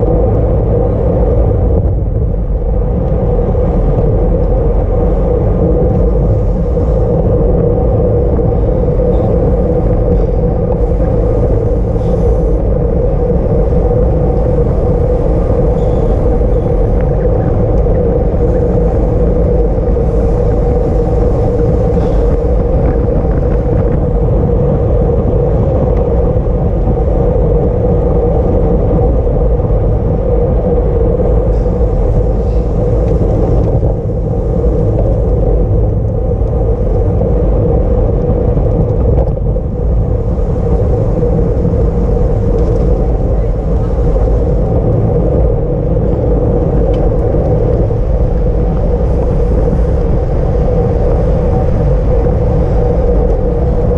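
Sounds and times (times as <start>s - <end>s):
hum from moving bike: 0.0s - 53.9s
wind roar on microphone: 0.0s - 53.9s.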